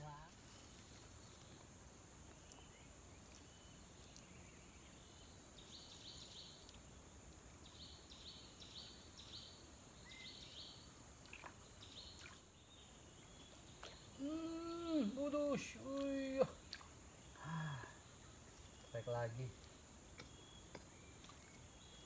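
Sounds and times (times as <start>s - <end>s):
high insect-like hum: 0.0s - 22.0s.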